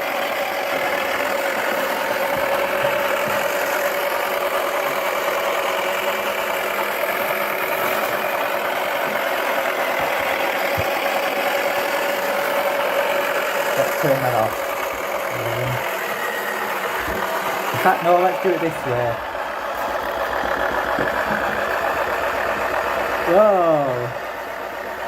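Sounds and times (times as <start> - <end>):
small electric motor whirring: 0.0 - 25.0.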